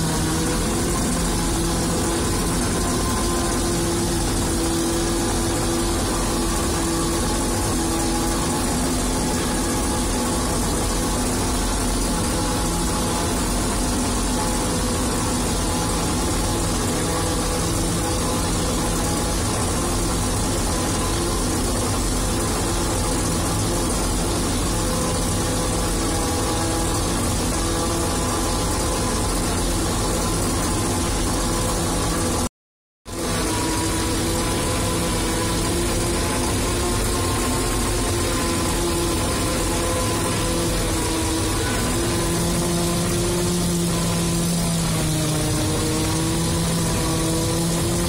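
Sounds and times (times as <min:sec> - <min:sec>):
diesel engine running under load: 0:00.0 - 0:32.5, 0:33.1 - 0:48.0.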